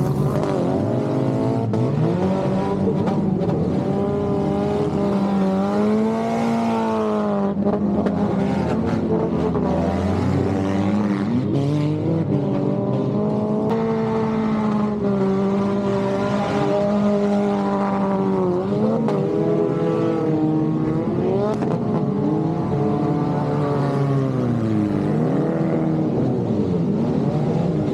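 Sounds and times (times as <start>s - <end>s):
race car engines revving: 0.0s - 27.9s.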